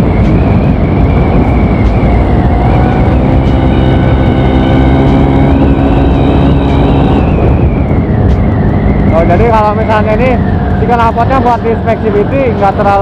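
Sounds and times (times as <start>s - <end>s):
scooter engine running: 0.0s - 13.0s
thin high exhaust whine: 0.0s - 13.0s.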